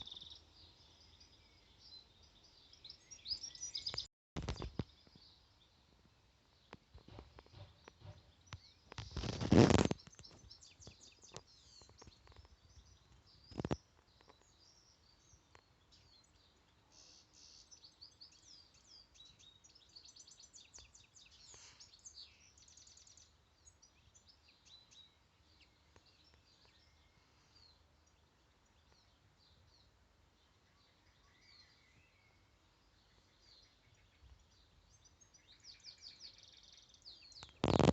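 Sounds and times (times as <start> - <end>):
small birds chirping and trilling: 0.0 - 37.9.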